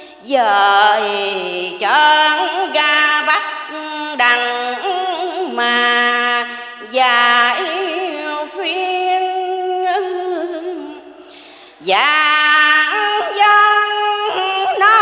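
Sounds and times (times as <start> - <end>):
woman chanting: 0.0 - 15.0.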